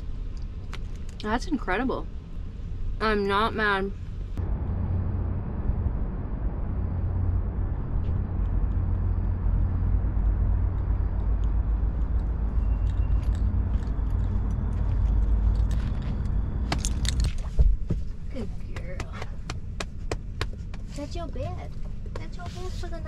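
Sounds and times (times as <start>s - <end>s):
constant hum: 0.0s - 23.0s
low outdoor rumble: 0.0s - 23.0s.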